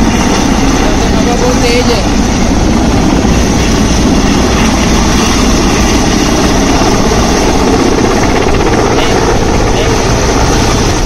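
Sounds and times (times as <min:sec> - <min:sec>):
helicopter rotor and turbine noise: 0:00.0 - 0:11.0.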